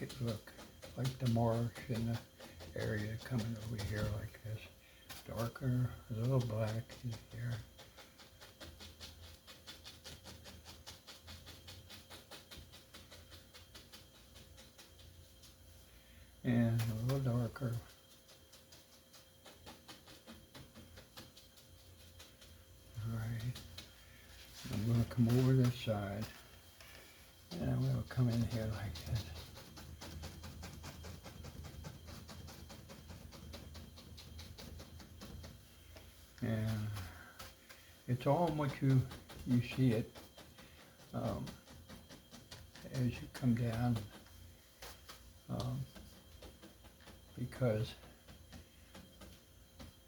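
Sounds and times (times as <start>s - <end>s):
paintbrush dabbing on canvas: 0.0s - 50.0s.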